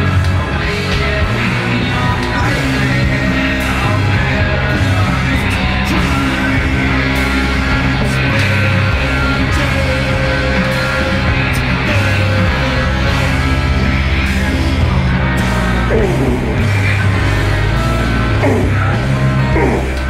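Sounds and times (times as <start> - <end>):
distorted guitar: 0.0 - 20.0
heavy rock music: 0.0 - 20.0
person singing: 0.0 - 20.0.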